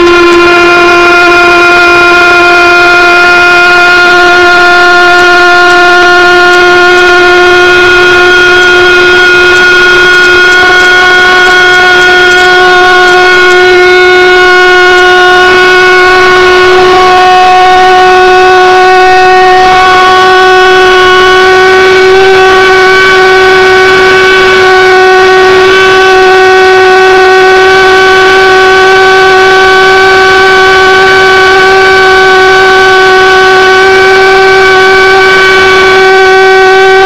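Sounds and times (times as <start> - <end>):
pulsejet buzzing drone: 0.0 - 37.0.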